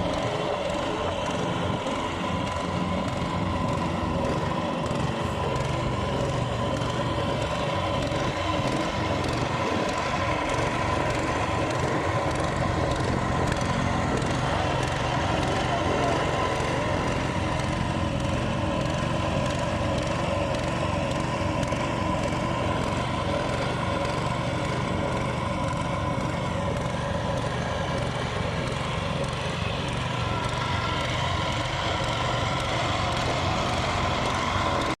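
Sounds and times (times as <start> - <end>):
engine humming steadily: 0.0 - 35.0.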